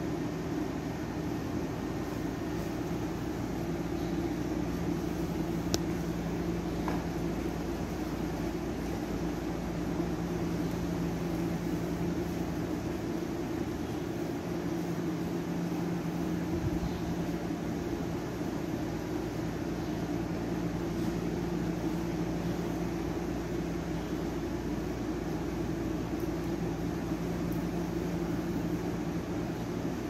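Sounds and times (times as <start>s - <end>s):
constant hiss: 0.0s - 30.0s
machine hum: 0.0s - 30.0s.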